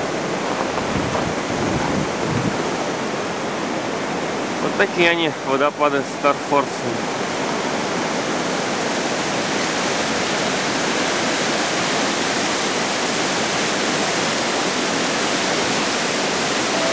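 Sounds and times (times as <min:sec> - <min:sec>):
rapids rushing over rocks: 0:00.0 - 0:16.9.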